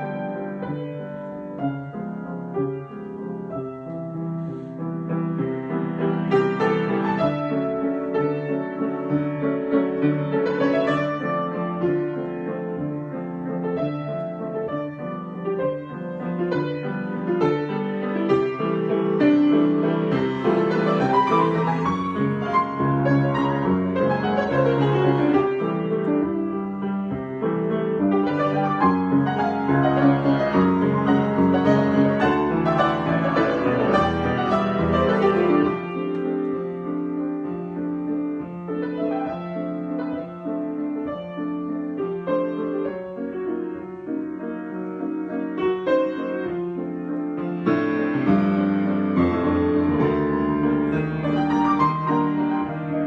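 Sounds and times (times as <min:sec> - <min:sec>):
solo piano chords and melody: 0:00.0 - 0:53.0.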